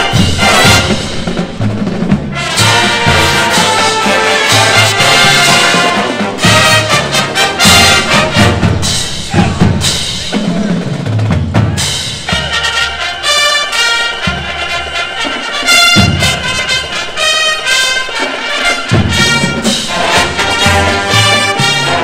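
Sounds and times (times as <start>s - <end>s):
brass chords: 0.0s - 22.0s
snare and bass drum strokes: 0.0s - 22.0s.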